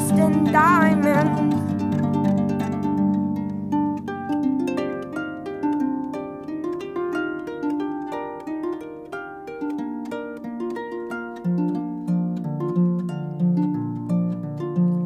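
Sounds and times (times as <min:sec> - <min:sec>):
harp playing plucked notes: 0:00.0 - 0:15.0.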